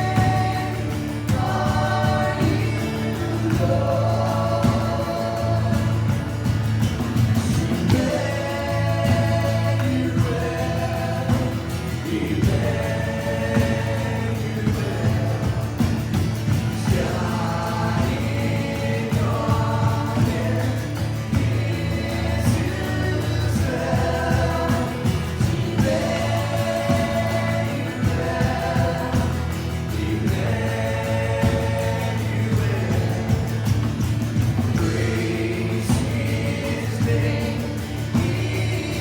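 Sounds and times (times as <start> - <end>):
voices singing worship music: 0.0 - 39.0.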